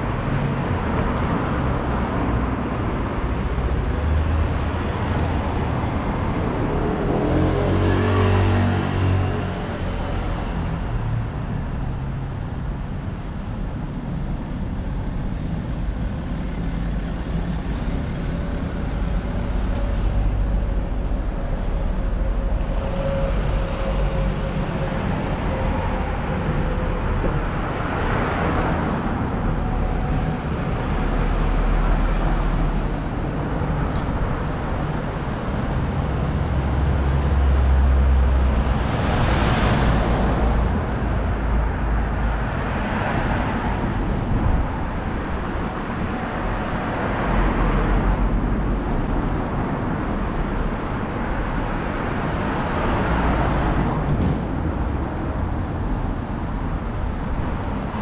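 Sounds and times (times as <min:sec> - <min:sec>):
low traffic rumble: 0:00.0 - 0:58.0
vehicles passing: 0:00.0 - 0:58.0.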